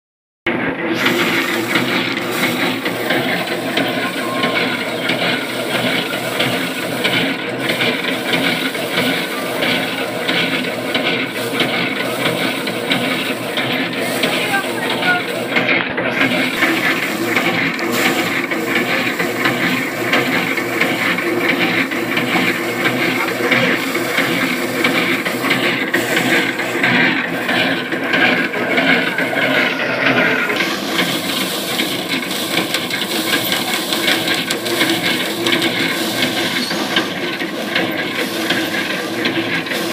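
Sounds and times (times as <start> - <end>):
diesel engine running: 0.5 - 39.9
threshing drum rattling and whirring: 0.5 - 39.9.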